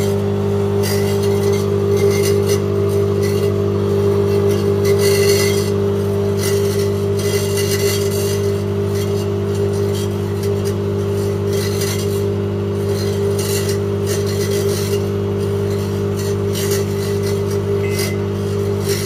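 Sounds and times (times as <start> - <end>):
microwave oven hum: 0.0 - 19.0.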